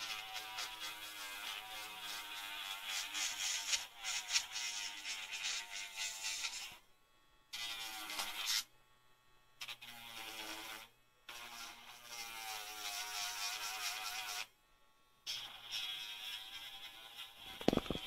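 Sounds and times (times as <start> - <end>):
electric nail grinder buzzing: 0.0 - 6.9, 7.5 - 8.7, 9.6 - 14.6, 15.2 - 18.0.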